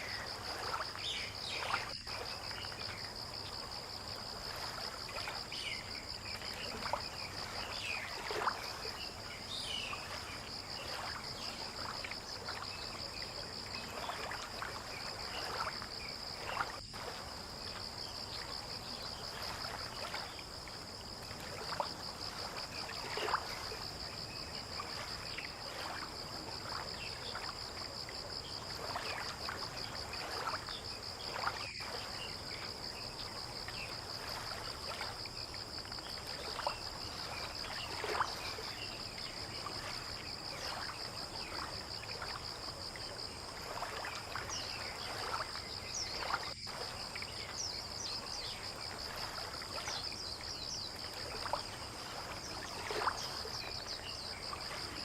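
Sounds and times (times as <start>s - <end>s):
water lapping and trickling: 0.0s - 55.0s.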